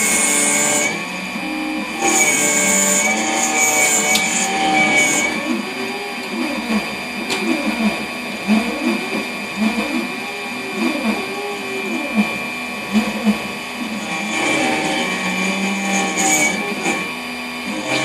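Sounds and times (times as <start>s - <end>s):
machine high whine with pitch sweeps: 0.0s - 18.0s.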